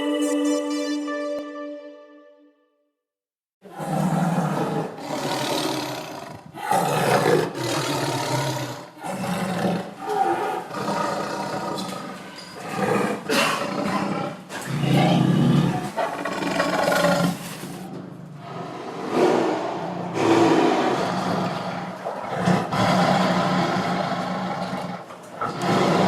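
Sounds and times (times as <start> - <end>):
tiger growling and roaring: 3.6 - 26.0.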